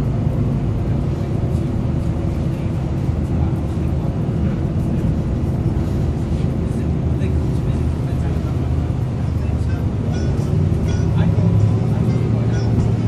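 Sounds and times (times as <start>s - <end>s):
bus diesel engine running: 0.0s - 13.0s
road rumble: 0.0s - 13.0s.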